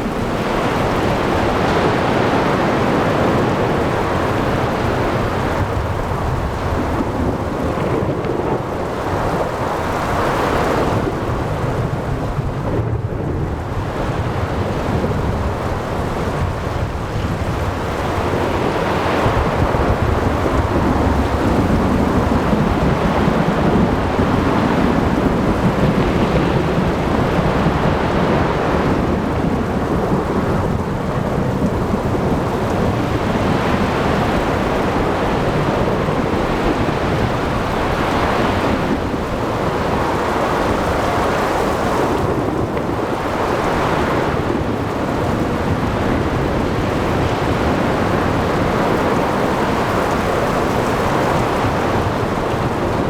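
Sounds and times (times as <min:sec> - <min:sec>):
heavy rain: 0:00.0 - 0:53.0
rolling thunder: 0:00.0 - 0:53.0.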